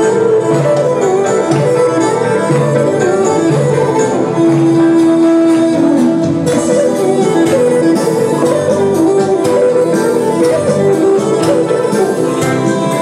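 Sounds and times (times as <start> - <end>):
live instrumental wedding music: 0.0 - 13.0
percussion hits: 0.0 - 13.0.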